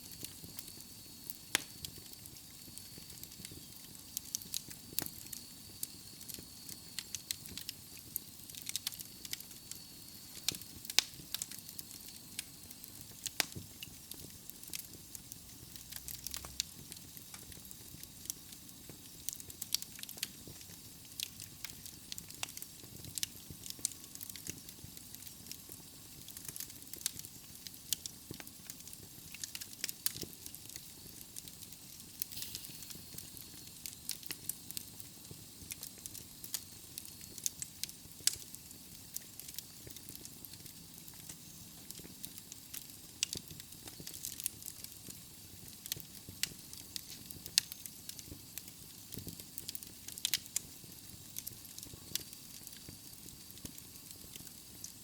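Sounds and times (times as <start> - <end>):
soft hiss: 0.0 - 55.0
logs crackling and popping: 0.1 - 55.0.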